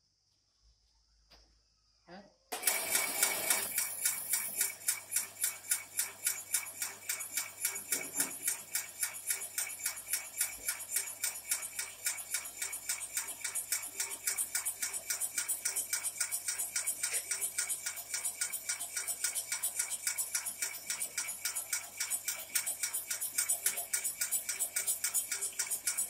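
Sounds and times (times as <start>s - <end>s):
slicing machine clattering: 2.5s - 26.0s.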